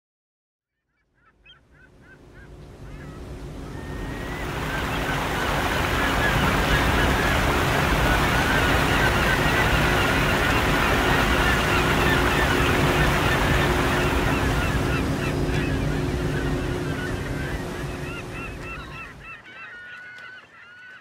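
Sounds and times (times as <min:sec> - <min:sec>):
wind: 0:01.0 - 0:21.0
churning river water: 0:02.0 - 0:19.7.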